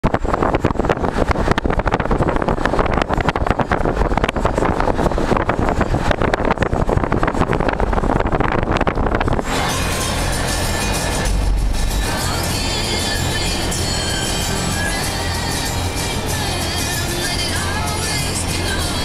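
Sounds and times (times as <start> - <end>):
car road noise: 0.0 - 19.0
wind buffeting microphone: 0.0 - 19.0.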